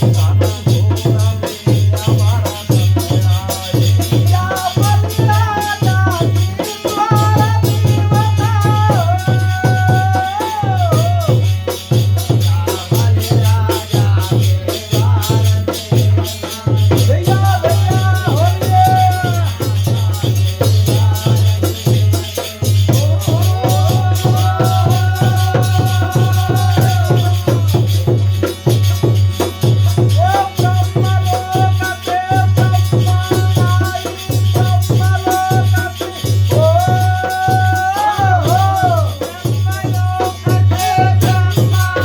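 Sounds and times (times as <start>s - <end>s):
shaken rattling percussion: 0.0s - 42.0s
steady drum beat: 0.0s - 42.0s.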